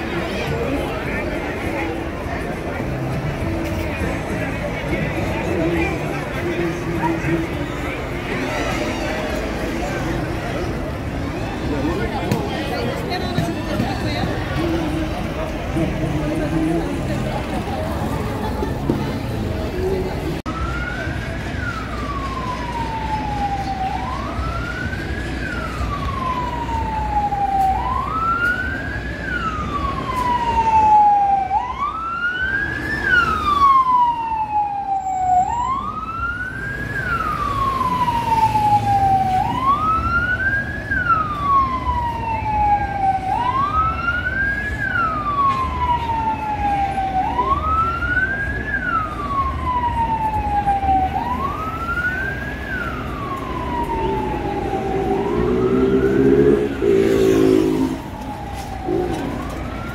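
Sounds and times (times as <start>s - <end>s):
ambulance siren: 0.0s - 59.9s
low traffic rumble: 0.0s - 59.9s.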